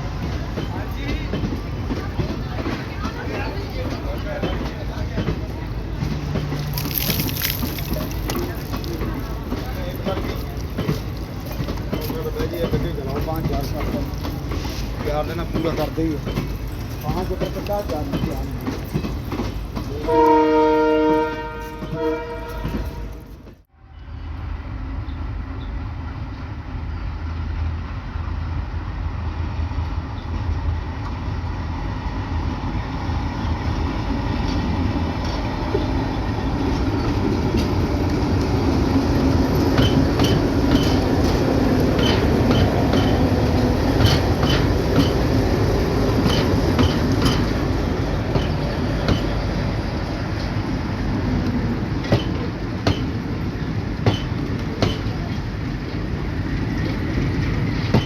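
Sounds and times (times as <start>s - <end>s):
train rumble: 0.0s - 58.0s
wheels clicking over rail joints: 0.2s - 23.6s, 34.3s - 58.0s.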